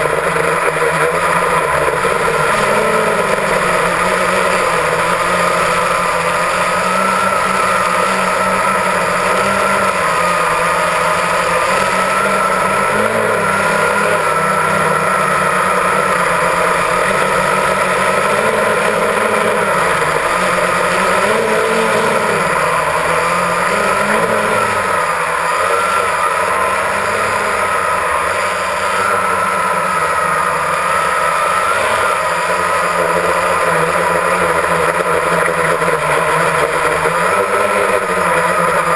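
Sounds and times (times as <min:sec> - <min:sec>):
drone motors and propellers: 0:00.0 - 0:38.9.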